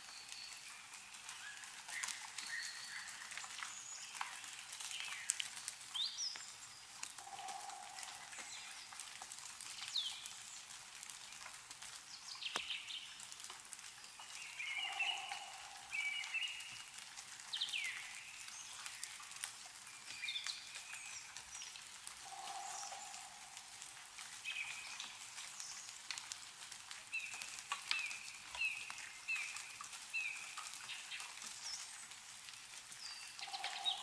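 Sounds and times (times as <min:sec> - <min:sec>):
small birds chirping: 0:00.0 - 0:26.1, 0:27.0 - 0:32.3, 0:32.9 - 0:34.0
meltwater dripping: 0:00.0 - 0:34.0.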